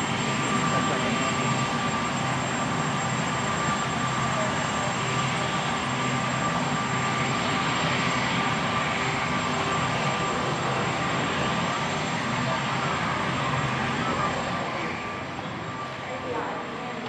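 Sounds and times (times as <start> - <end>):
helicopter turbine and rotor: 0.0 - 17.0
high turbine whine: 0.0 - 17.0.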